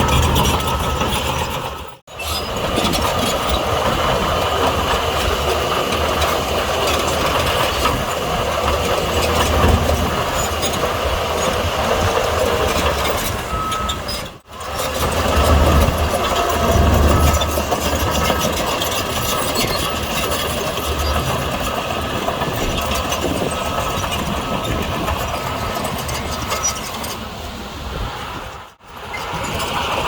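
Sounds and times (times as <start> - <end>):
metallic clanking and rattle: 0.0 - 27.2
heavy diesel machinery engine drone: 0.0 - 30.0.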